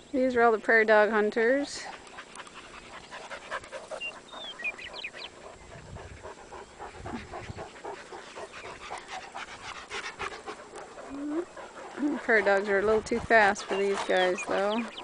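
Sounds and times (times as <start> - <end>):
dogs panting: 0.7 - 15.0.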